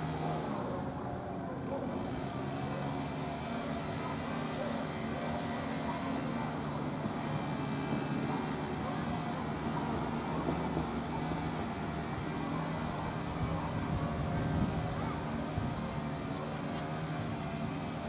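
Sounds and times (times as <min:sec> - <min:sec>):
distant crowd voices: 0:00.0 - 0:18.0.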